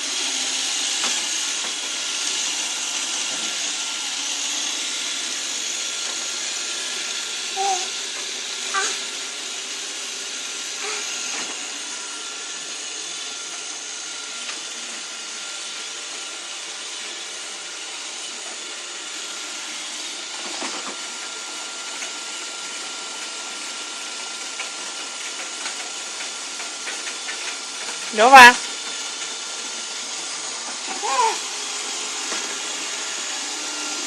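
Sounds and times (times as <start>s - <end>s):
robot vacuum cleaner whirring: 0.0s - 34.0s.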